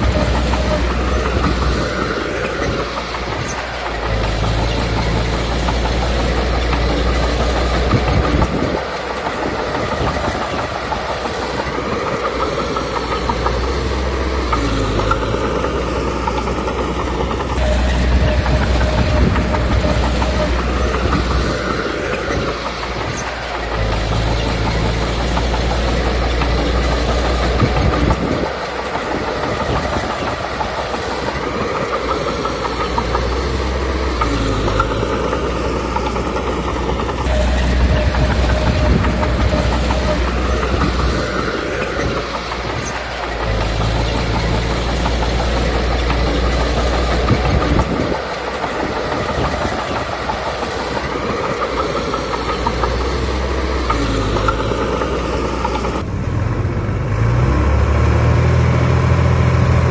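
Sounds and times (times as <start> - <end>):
diesel engine rumbling: 0.0 - 59.9
steel tracks clattering: 0.0 - 59.9.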